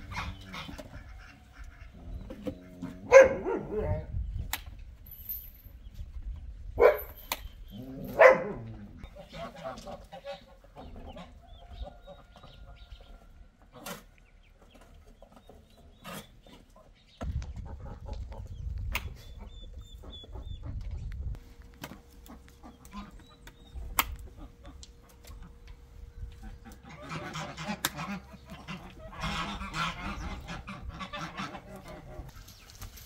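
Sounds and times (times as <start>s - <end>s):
poultry clucking: 0.0s - 4.2s, 6.8s - 33.0s.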